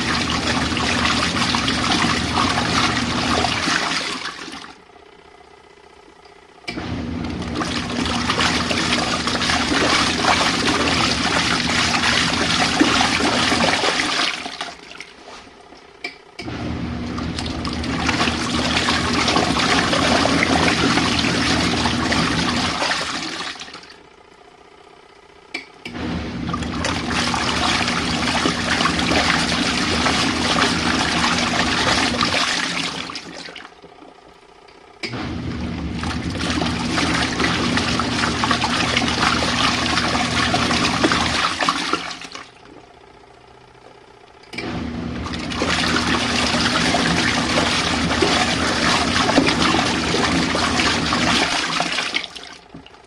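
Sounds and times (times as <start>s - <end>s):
washing machine churning water: 0.0s - 53.0s.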